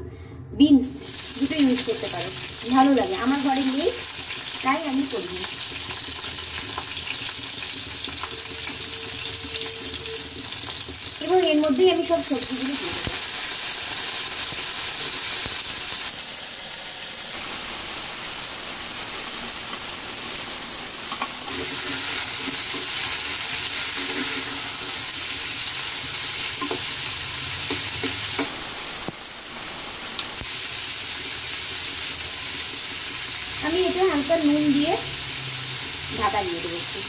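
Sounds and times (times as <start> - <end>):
vegetables sizzling in hot oil: 1.0 - 37.0.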